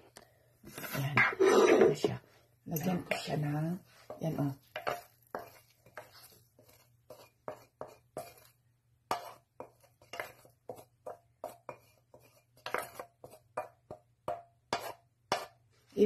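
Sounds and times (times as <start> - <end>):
wooden spatula scraping steel pan: 0.7 - 14.0, 14.7 - 15.6.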